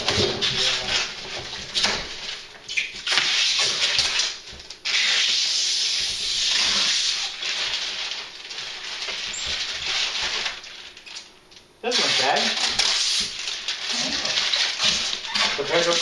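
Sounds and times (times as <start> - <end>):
plastic film being peeled off: 0.4 - 11.3, 11.9 - 16.0.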